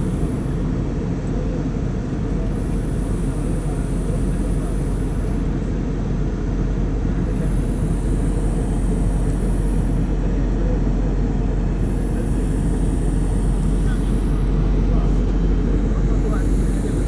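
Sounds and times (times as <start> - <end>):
airliner engines roaring in cabin: 0.0 - 17.0.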